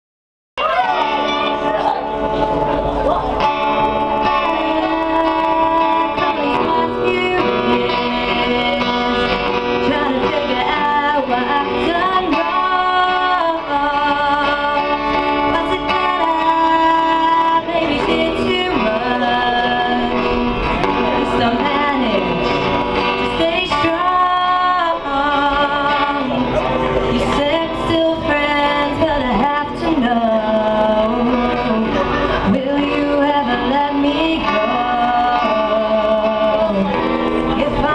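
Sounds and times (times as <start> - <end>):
guitar accompaniment: 0.6 - 37.9
person singing: 3.1 - 37.9.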